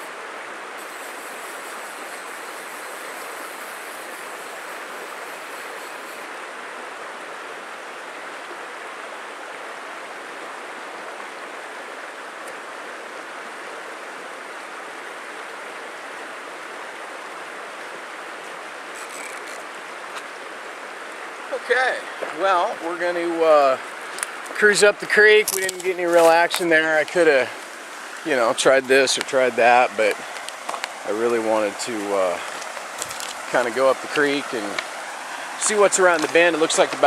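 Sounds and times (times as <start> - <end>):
creek flowing: 0.0 - 37.0.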